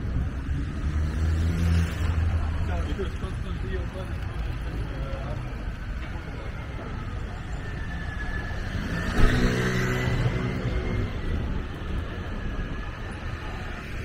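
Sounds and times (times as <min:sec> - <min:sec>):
street noise hum: 0:00.0 - 0:14.0.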